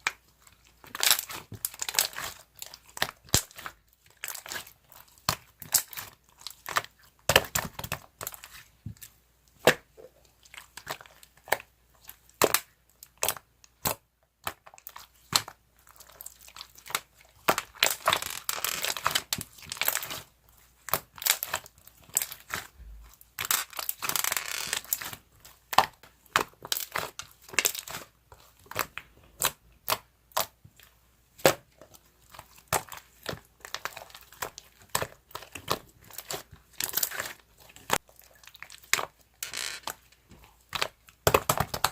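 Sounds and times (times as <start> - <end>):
slime squished with crackling pops: 0.8 - 9.0, 9.6 - 41.9.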